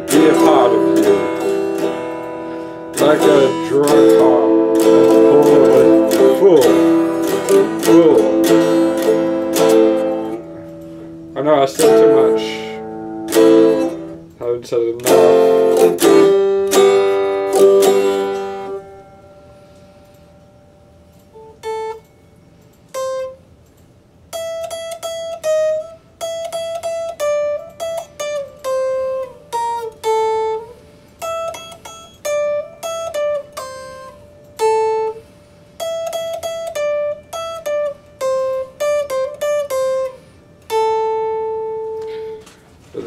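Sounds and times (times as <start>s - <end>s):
clean electric guitar melody: 0.0s - 14.4s, 15.0s - 43.0s.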